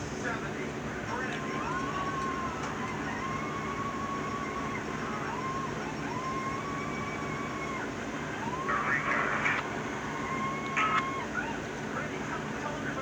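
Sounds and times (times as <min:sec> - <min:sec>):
siren wailing: 0:01.2 - 0:12.0.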